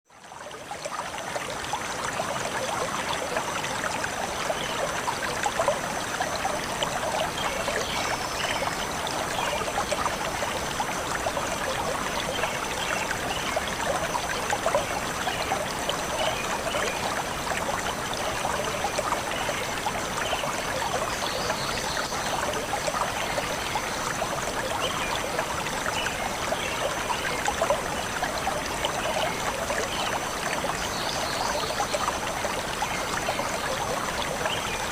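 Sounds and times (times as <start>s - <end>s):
forest stream trickling and gurgling: 0.0s - 34.9s.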